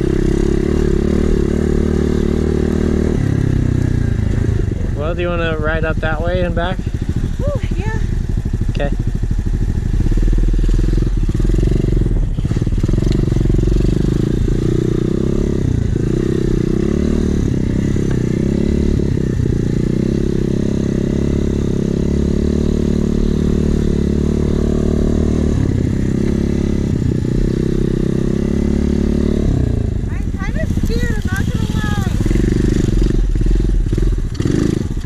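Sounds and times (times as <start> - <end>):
small motorbike engine revving: 5.1 - 35.0.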